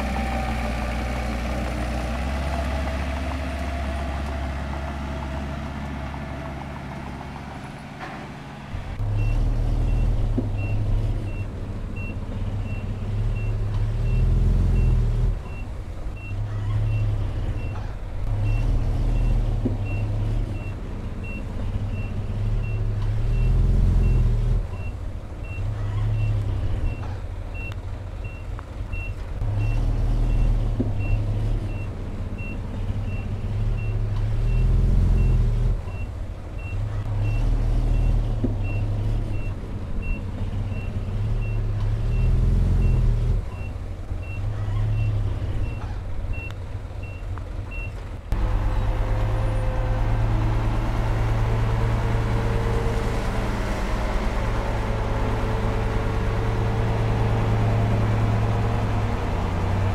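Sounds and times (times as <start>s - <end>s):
heavy diesel machine engine: 0.0s - 59.9s.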